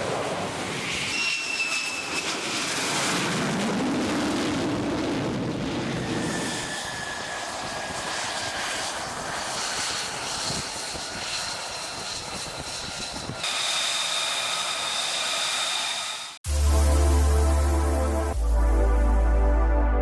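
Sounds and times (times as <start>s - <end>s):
fighter jet engine whine: 0.0s - 19.2s.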